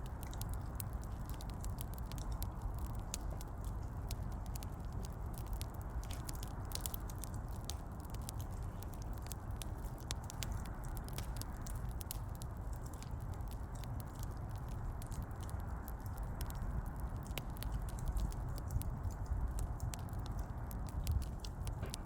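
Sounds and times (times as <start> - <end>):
low rumble of burning logs: 0.0 - 22.0
wood fire crackling: 0.0 - 22.0.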